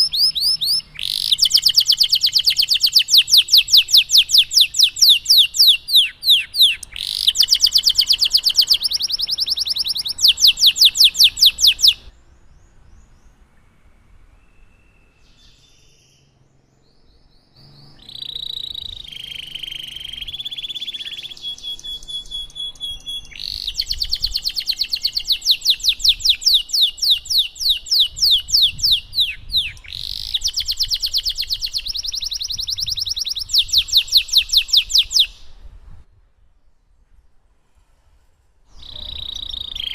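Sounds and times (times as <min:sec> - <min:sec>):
canary singing trills: 0:00.0 - 0:13.4, 0:14.3 - 0:35.7, 0:38.7 - 0:39.9.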